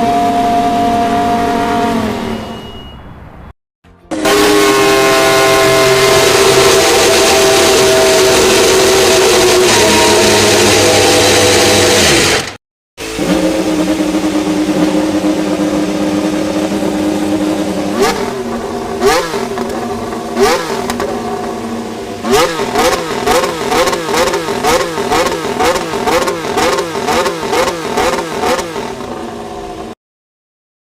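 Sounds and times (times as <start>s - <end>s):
racing car engine revving: 0.0s - 2.4s, 4.1s - 30.0s
engine throttle blips: 0.0s - 3.2s, 3.9s - 30.0s.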